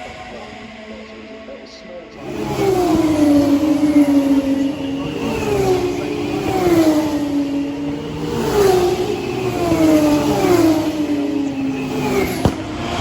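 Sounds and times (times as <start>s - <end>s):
racing car engine running hard: 2.1s - 13.0s.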